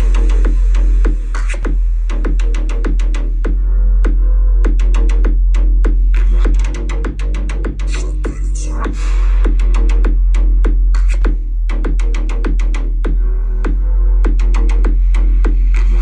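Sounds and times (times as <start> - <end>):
electronic hip-hop beat: 0.0 - 16.0
sub-bass hum: 0.0 - 16.0.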